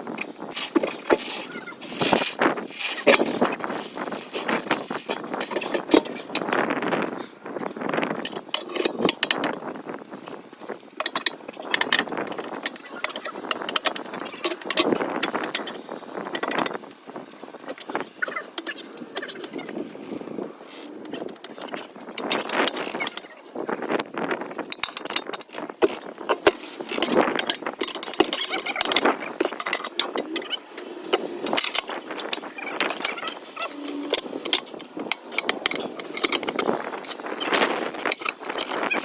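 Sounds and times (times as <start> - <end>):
hand tools clanking on metal: 0.1 - 39.0.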